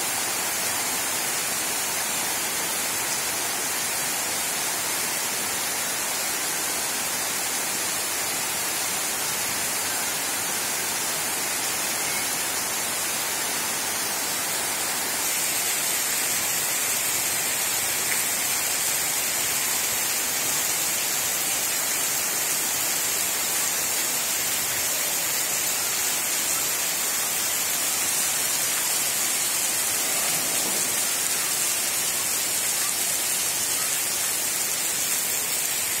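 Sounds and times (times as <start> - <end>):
heavy rain on rooftops and foliage: 0.0 - 36.0.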